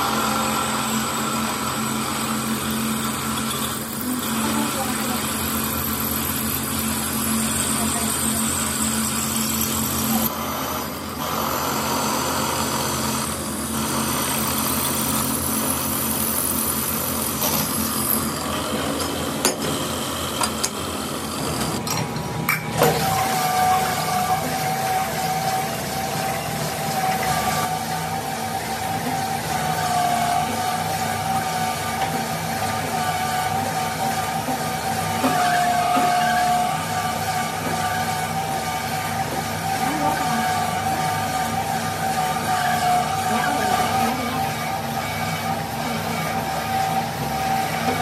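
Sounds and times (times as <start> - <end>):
drill press cutting metal: 0.0 - 48.0
machine hum with held tone: 0.0 - 48.0.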